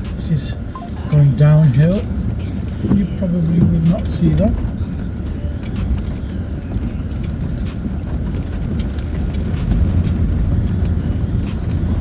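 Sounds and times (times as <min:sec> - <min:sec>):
vehicle cabin low rumble: 0:00.0 - 0:12.0.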